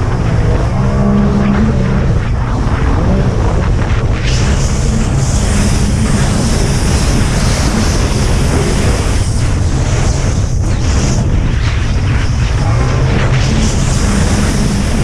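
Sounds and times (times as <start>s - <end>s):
jet ski engine running: 0.0s - 15.0s
rushing water: 0.0s - 15.0s
wind buffeting microphone: 0.0s - 15.0s.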